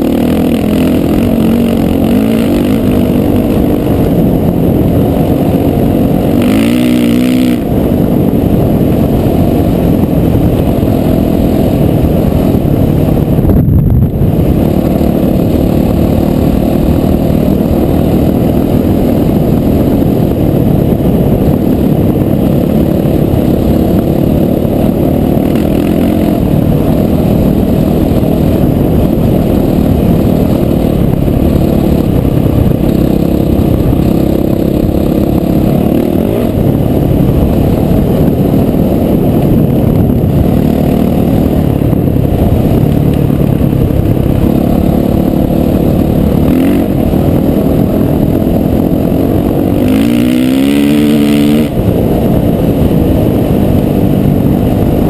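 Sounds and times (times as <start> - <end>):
dirt bike engine revving: 0.0 - 13.4, 14.1 - 55.0.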